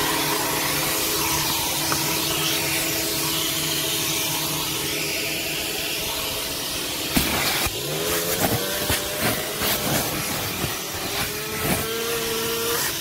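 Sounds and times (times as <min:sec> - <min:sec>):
vacuum hissing and humming: 0:00.0 - 0:13.0.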